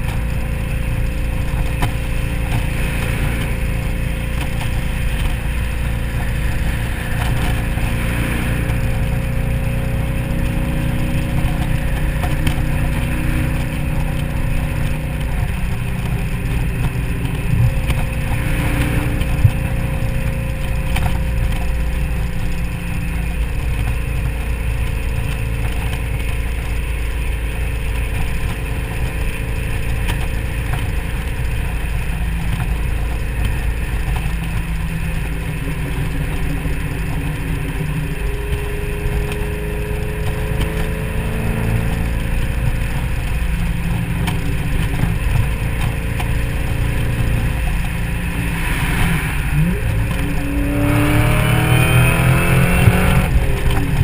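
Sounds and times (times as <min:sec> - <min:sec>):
car engine cruising: 0:00.0 - 0:54.0
road noise: 0:00.0 - 0:54.0
wind noise: 0:00.0 - 0:54.0.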